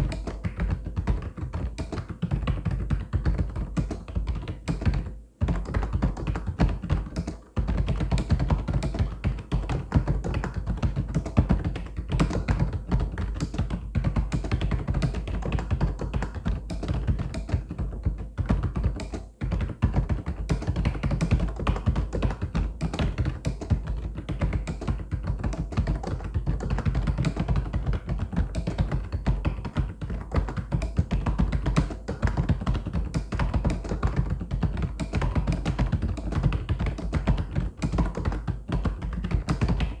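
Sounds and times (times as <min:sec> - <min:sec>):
mechanical keyboard typing: 0:00.0 - 0:40.0.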